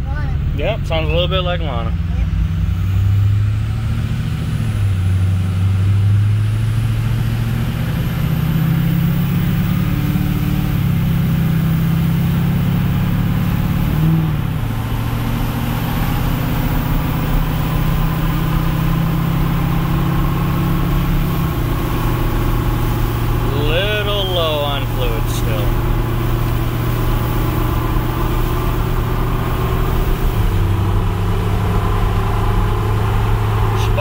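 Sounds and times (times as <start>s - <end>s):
diesel truck engine droning: 0.0s - 34.0s.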